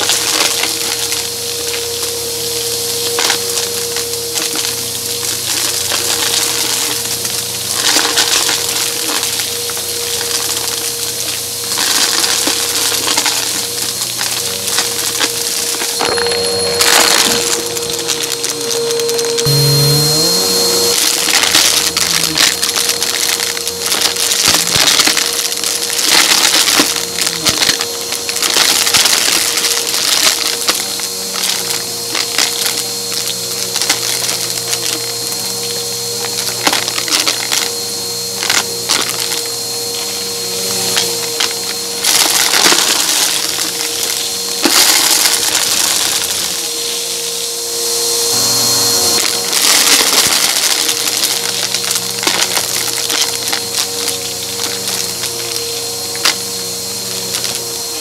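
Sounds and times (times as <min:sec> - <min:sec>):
debris crunching in vacuum: 0:00.0 - 0:58.0
vacuum motor whine: 0:00.0 - 0:58.0.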